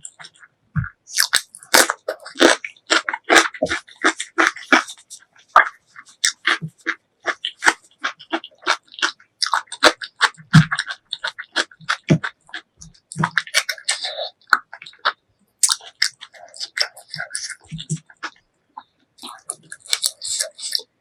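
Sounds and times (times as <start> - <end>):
wet mouth smacks and chewing: 0.0 - 20.9.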